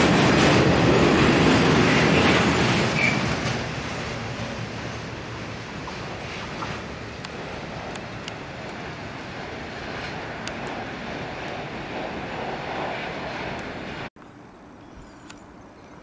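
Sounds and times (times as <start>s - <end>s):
train wheels rumbling on track: 0.0s - 14.1s.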